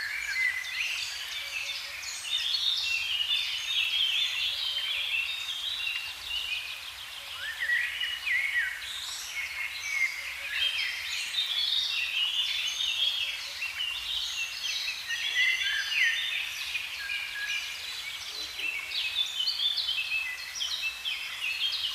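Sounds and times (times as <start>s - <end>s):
songbirds singing: 0.0s - 21.9s.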